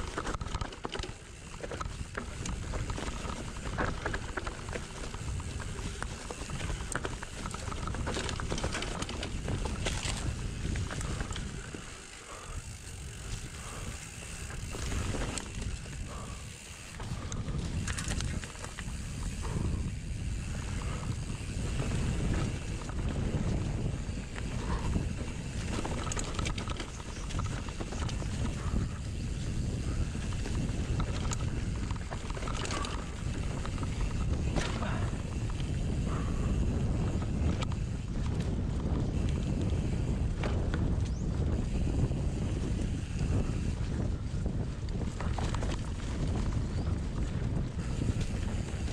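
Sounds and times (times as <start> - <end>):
bike knocks and rattles: 0.0 - 48.9
bike tyres rumbling on dirt: 0.0 - 48.9
wind: 0.0 - 48.9.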